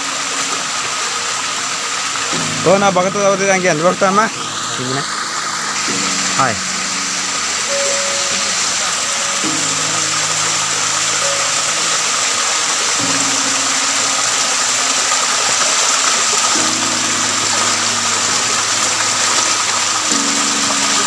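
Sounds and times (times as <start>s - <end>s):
stream rushing over rocks: 0.0s - 21.0s
soft background music: 0.1s - 21.0s.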